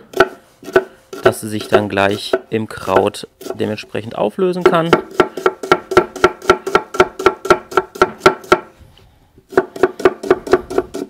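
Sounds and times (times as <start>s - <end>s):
knife chopping on wooden board: 0.0s - 3.7s, 4.6s - 8.7s, 9.5s - 11.0s.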